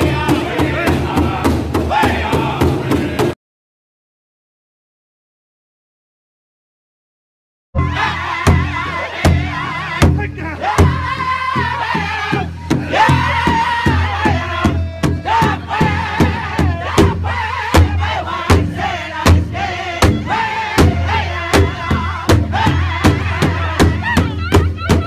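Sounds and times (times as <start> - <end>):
large hide drum beats: 0.0 - 3.4, 7.8 - 25.0
men singing high-pitched song: 0.0 - 3.4, 7.8 - 25.0.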